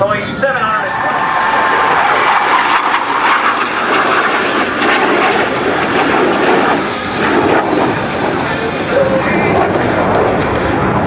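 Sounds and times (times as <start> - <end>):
jet roaring past: 0.0 - 11.0.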